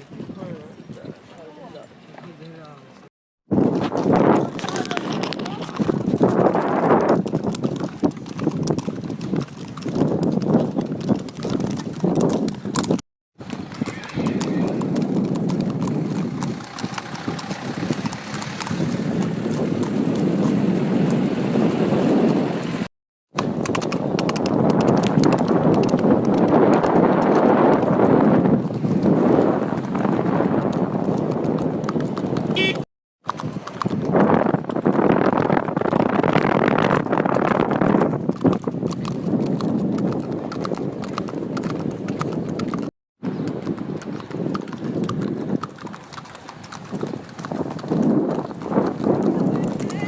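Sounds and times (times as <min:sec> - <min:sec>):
wind buffeting microphone: 0:00.0 - 0:02.8, 0:03.5 - 0:50.0
horse hooves clip-clopping: 0:00.0 - 0:50.0.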